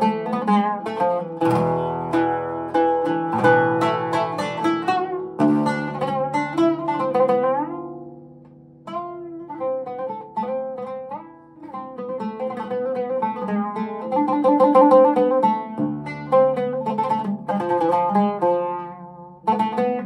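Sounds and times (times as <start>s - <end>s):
oud plucked solo: 0.0s - 20.0s.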